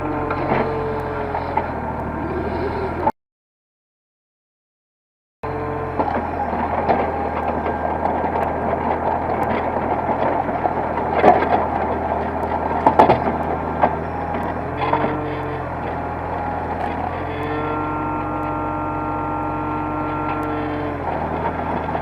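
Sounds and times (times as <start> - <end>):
excavator diesel engine running: 0.0 - 3.1, 5.4 - 22.0.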